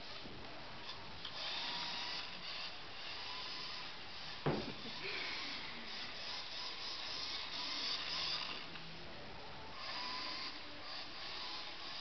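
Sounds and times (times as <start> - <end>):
toy car motor whirring: 0.8 - 8.8, 9.7 - 12.0.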